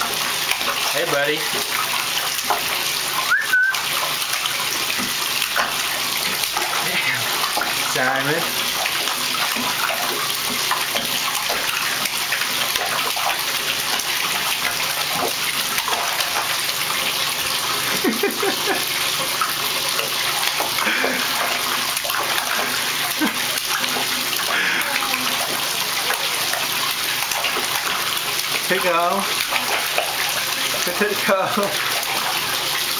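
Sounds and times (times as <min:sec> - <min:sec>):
baby splashing water: 0:03.2 - 0:32.6.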